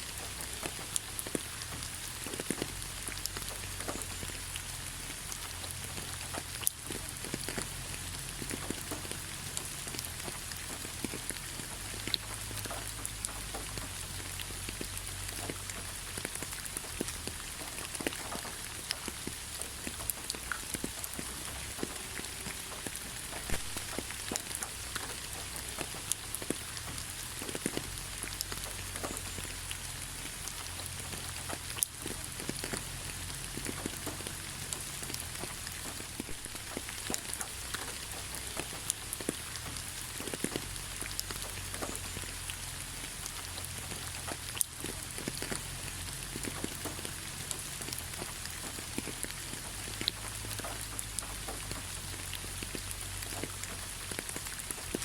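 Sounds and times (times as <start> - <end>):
raindrops ticking sharply: 0.0 - 55.0
steady rain: 0.0 - 55.0.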